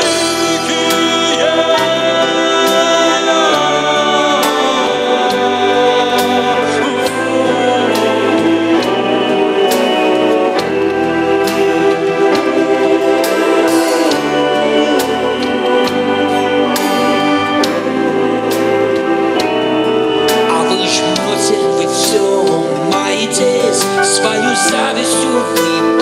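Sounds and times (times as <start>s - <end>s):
choir-like singing: 0.0s - 26.0s
instrumental music with slow beat: 0.0s - 26.0s.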